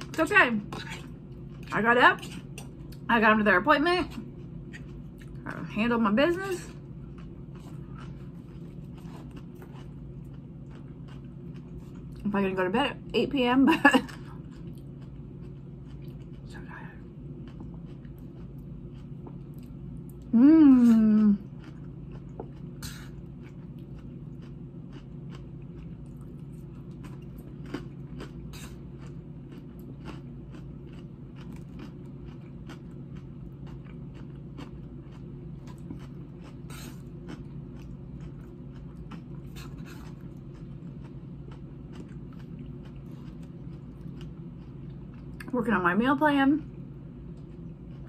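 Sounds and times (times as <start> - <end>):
chewing crisp salad: 0.0 - 3.1, 4.0 - 12.4, 14.0 - 45.6, 46.6 - 48.0
low hum: 0.0 - 48.0.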